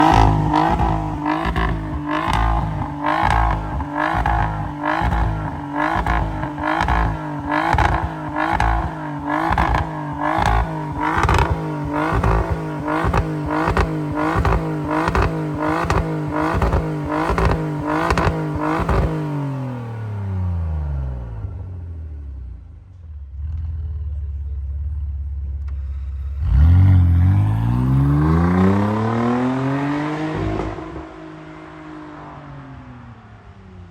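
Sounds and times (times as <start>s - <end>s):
car engine revving: 0.0s - 21.5s, 25.6s - 33.5s.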